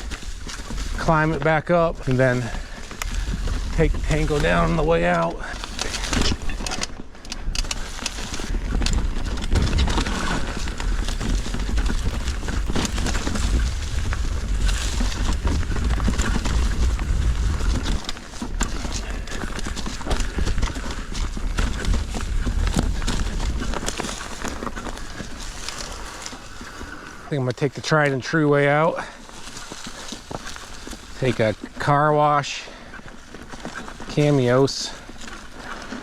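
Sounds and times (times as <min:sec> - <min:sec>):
bike rattling on rough trail: 0:00.0 - 0:36.0
low tyre rumble: 0:00.0 - 0:36.0.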